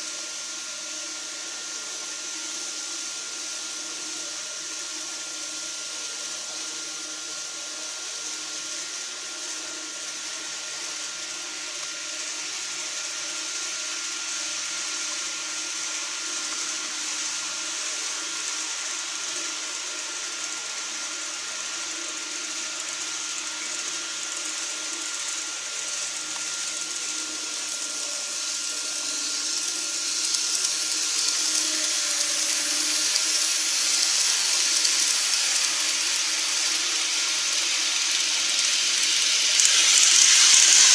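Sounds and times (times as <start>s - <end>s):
model train rolling: 0.0s - 40.9s.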